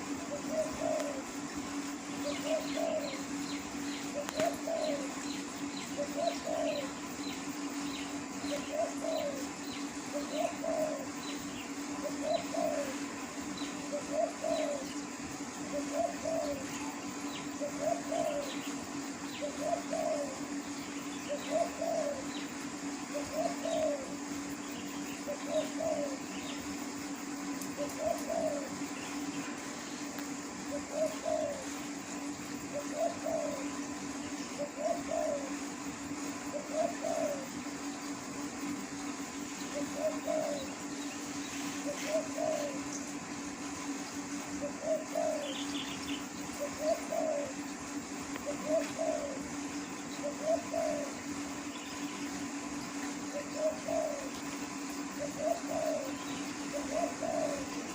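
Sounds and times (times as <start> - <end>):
dove cooing: 0.0 - 57.9.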